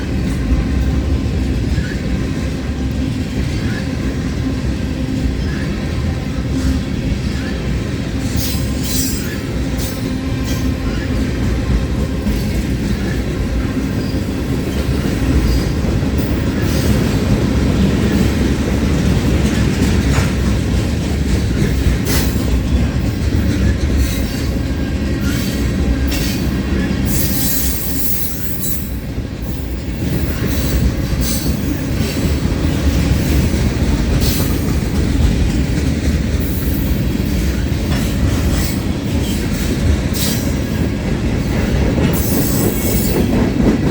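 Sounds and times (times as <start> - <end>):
freight train wheels rumbling: 0.0 - 43.9
wheels clicking over rail joints: 8.2 - 43.9.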